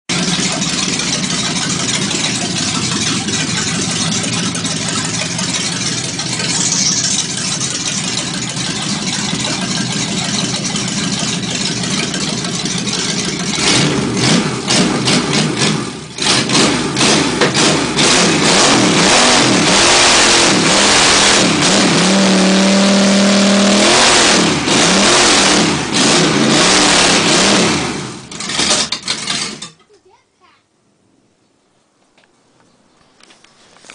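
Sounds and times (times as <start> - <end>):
car engine idling and revving: 0.1 - 29.7.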